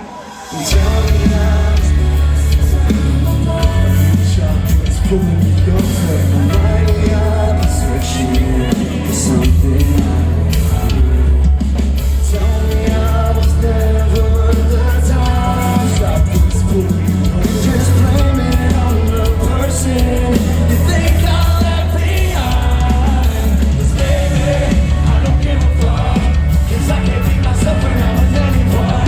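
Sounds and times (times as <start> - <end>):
metalcore band playing live: 0.0 - 29.0
person singing: 0.0 - 29.0.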